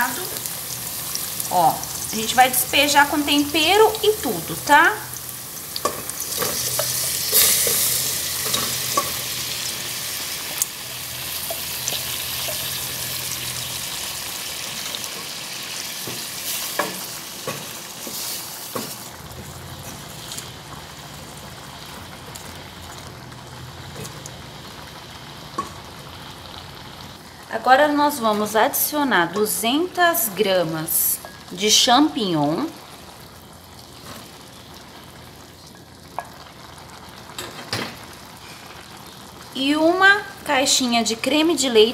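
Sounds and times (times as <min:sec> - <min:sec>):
shrimp sizzling in hot oil: 0:00.0 - 0:27.4, 0:28.8 - 0:41.9.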